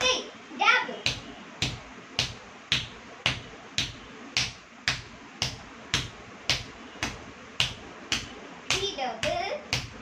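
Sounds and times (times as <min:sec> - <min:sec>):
bare feet stamping on tiles: 0:01.0 - 0:10.0.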